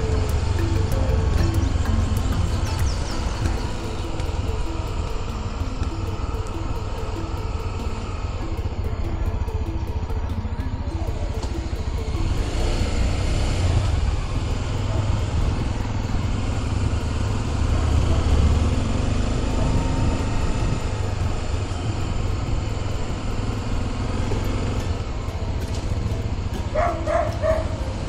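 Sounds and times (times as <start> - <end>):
motorcycle engine rumble: 0.0 - 28.0.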